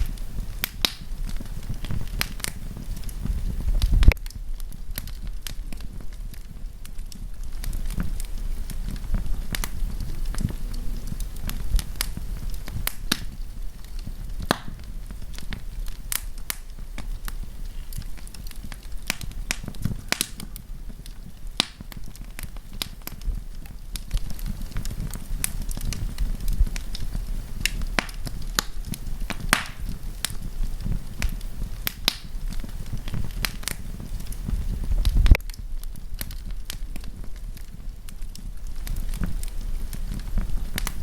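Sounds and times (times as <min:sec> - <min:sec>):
campfire crackling and popping: 0:00.0 - 0:41.0
low rumble of fire: 0:00.0 - 0:41.0.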